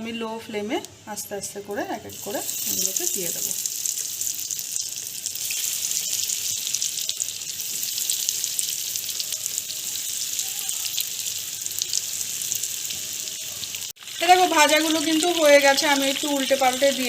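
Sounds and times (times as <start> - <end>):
food frying in hot oil: 2.0 - 17.0
oil crackles: 2.1 - 17.0.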